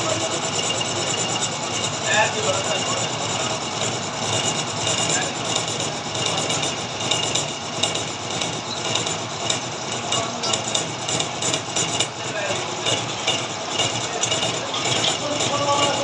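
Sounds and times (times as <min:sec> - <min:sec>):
high steady whine: 0:00.0 - 0:16.0
metal lathe scraping: 0:00.0 - 0:16.0.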